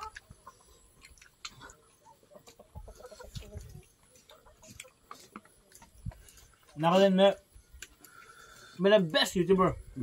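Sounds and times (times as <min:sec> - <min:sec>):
people eating with their hands: 0:00.0 - 0:09.4
chickens clucking: 0:00.0 - 0:10.0.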